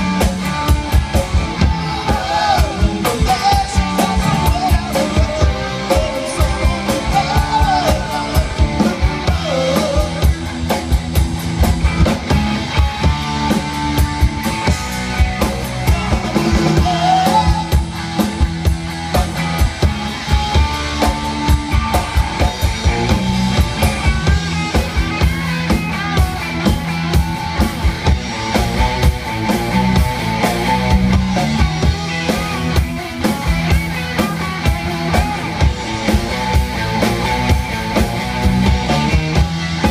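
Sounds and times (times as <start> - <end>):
drum kit beat: 0.0 - 39.9
live rock band playing: 0.0 - 39.9.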